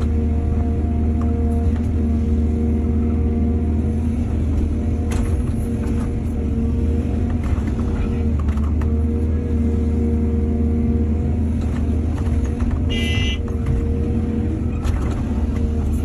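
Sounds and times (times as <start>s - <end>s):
diesel earthmoving machinery running: 0.0s - 16.0s.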